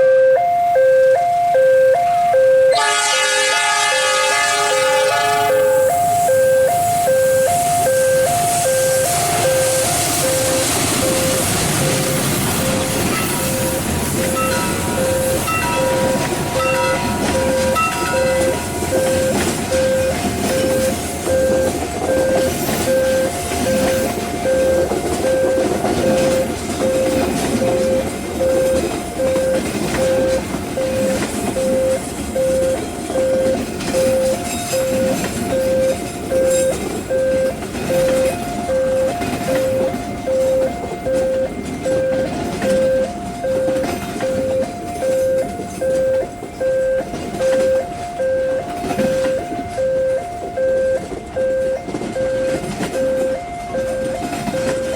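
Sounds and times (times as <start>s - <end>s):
level-crossing alarm beeping: 0.0s - 54.9s
train wheels rumbling on rails: 2.0s - 54.9s.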